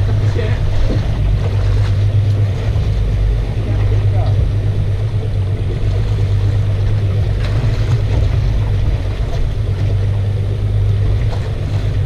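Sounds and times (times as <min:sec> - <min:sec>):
choppy water against hull: 0:00.0 - 0:12.0
outboard motor idling: 0:00.0 - 0:12.0
wind: 0:00.0 - 0:12.0.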